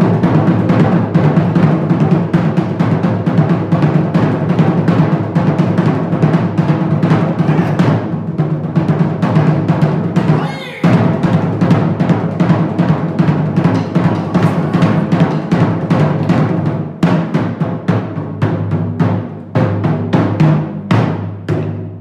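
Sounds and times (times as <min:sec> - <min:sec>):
drums in fast rhythm: 0:00.0 - 0:22.0.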